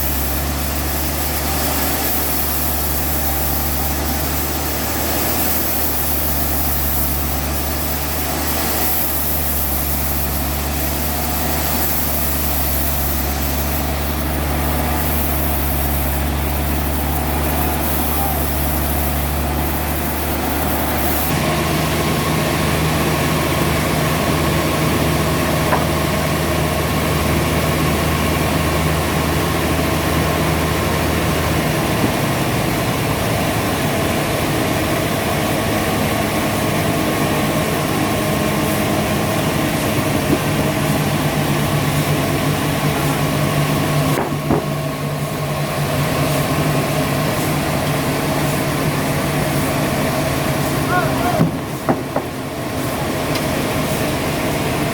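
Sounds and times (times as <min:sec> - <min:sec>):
sawmill machinery humming: 0:00.0 - 0:54.9.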